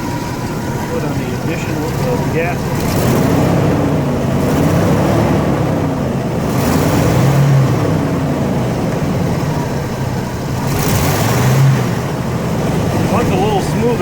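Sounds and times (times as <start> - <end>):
engine running at low speed: 0.0 - 14.0.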